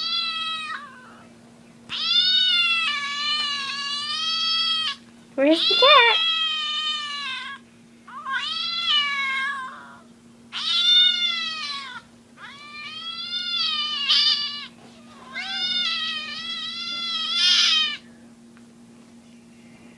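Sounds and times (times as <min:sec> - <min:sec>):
cat meowing: 0:00.0 - 0:01.3, 0:01.9 - 0:05.0, 0:05.6 - 0:18.0.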